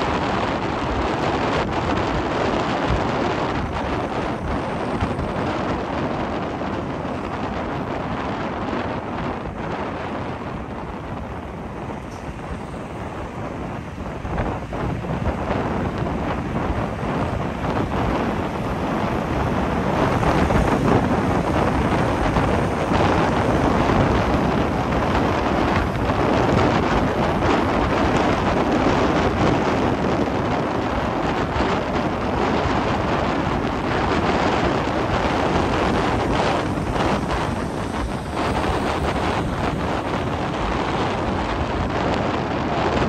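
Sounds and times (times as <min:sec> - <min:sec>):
road traffic rushing: 0:00.0 - 0:43.0
wind noise on microphone: 0:00.0 - 0:43.0.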